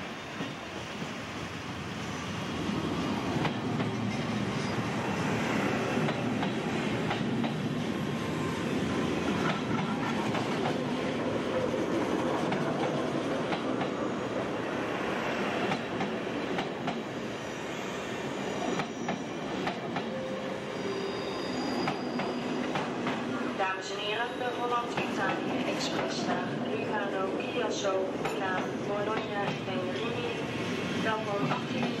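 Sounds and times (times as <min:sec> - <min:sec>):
train wheels rumbling on rails: 0:00.0 - 0:20.4, 0:21.6 - 0:23.6, 0:24.4 - 0:32.0.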